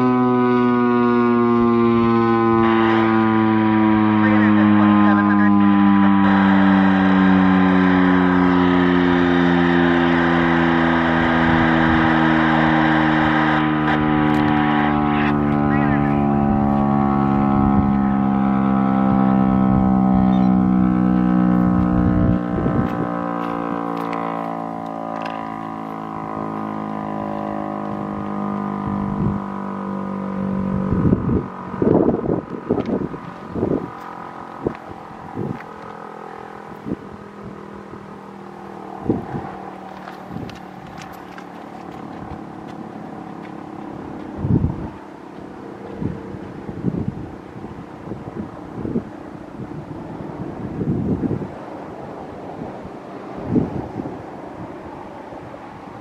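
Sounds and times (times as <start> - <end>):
outdoor warning siren steady tone: 0.0 - 56.0
wind buffeting microphone: 6.8 - 56.0.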